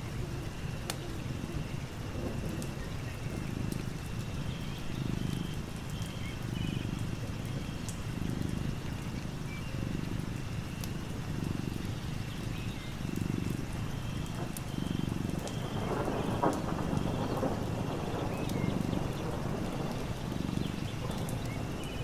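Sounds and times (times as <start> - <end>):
light rain hissing: 0.0 - 22.0
raindrops ticking: 0.0 - 22.0
cat purring: 1.3 - 22.0.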